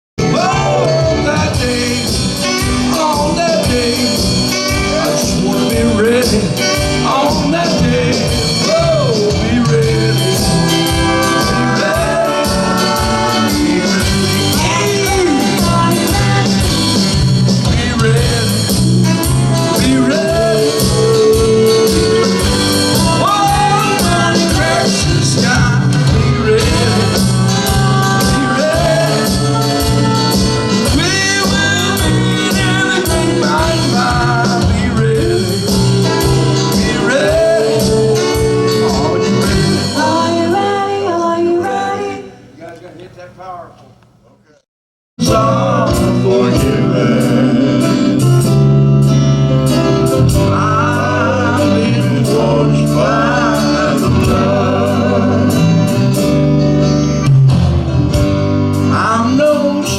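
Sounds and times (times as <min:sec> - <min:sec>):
drums keeping steady beat: 0:00.2 - 0:40.5, 0:45.2 - 0:59.9
praise band playing: 0:00.2 - 0:44.6, 0:45.2 - 0:59.9.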